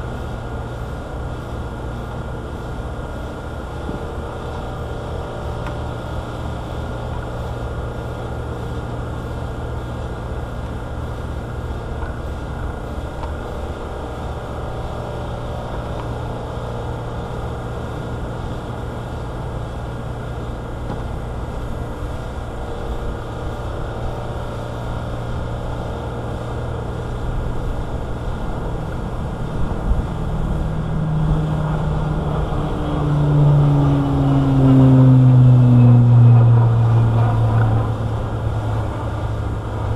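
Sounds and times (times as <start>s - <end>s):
low motor drone: 0.0s - 39.9s.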